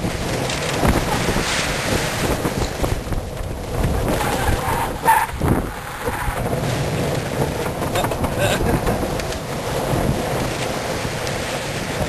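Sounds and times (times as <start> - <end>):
golf cart rumble: 0.0 - 12.0
wind buffeting microphone: 0.0 - 12.0.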